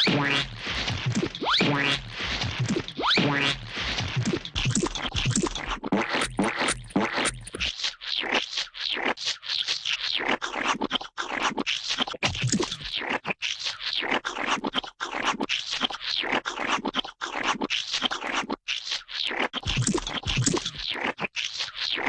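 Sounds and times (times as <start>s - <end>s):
cartoon scratching and scraping: 0.0s - 22.0s.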